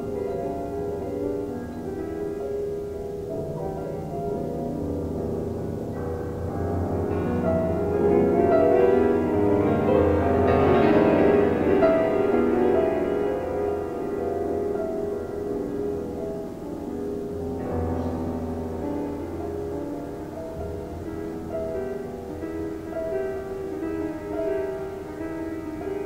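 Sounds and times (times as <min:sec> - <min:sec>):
grand piano chords: 0:00.0 - 0:26.0.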